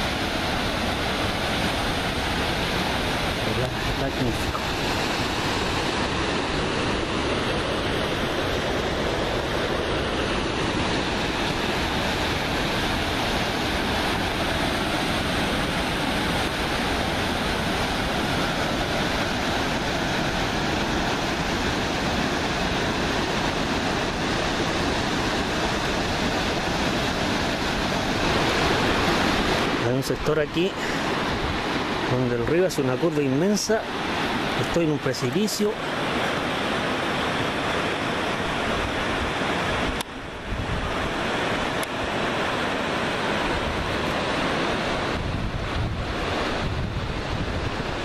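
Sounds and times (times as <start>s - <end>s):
river rushing over rapids: 0.0s - 48.0s.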